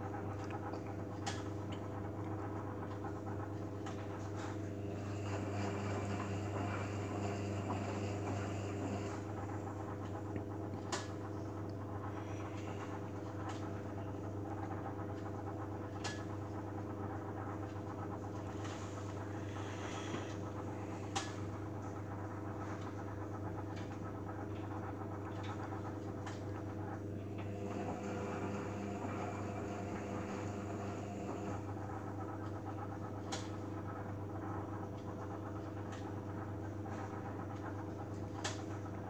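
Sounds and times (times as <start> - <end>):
washing machine humming: 0.0 - 39.0.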